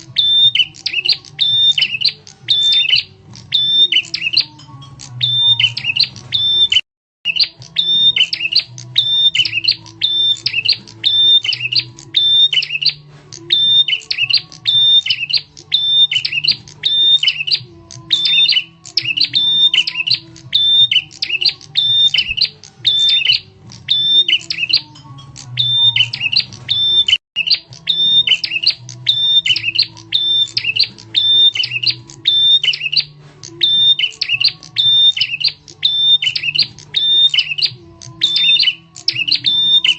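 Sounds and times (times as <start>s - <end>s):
high sharp bird chirping: 0.0s - 39.9s.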